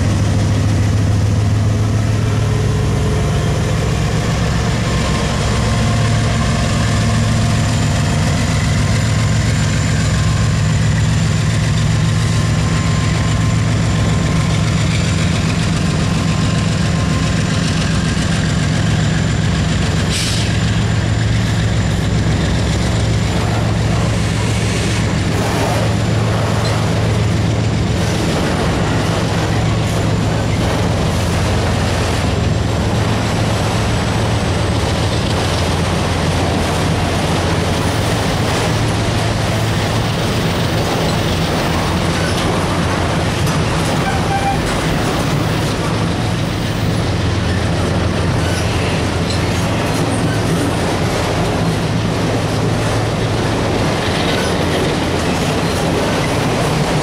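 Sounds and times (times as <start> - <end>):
diesel locomotive drone: 0.0 - 57.0
freight cars rolling on rails: 0.0 - 57.0.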